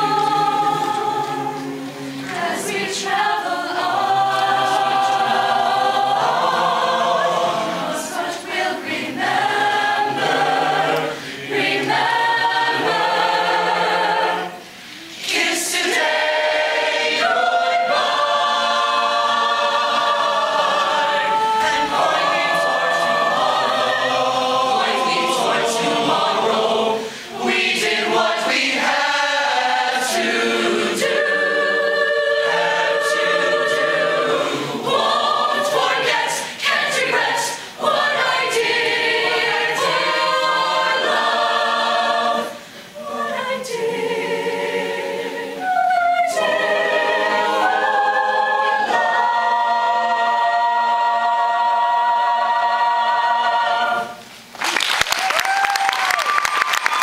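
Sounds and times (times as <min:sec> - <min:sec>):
choir singing a ballad: 0:00.0 - 0:54.5.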